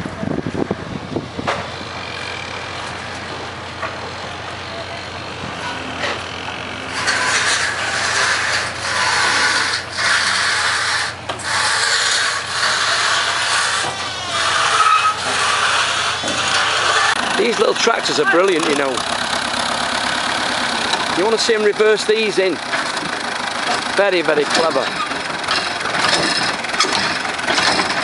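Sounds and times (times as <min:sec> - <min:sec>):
harsh rasping scraping noise: 0:05.5 - 0:28.0.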